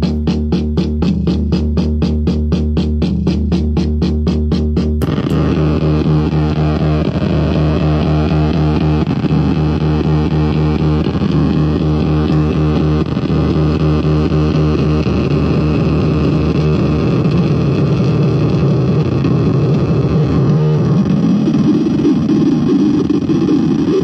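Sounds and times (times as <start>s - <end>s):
droning low tone: 0.0s - 24.0s
glitchy stuttering drum machine beat: 0.0s - 24.0s.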